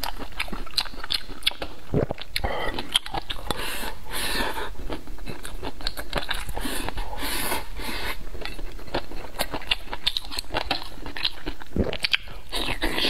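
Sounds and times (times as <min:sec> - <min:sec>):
chewing rice: 0:00.0 - 0:13.0.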